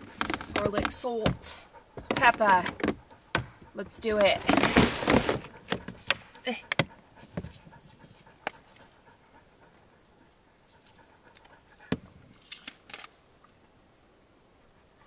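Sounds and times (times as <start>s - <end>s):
dog panting: 0.0s - 12.2s.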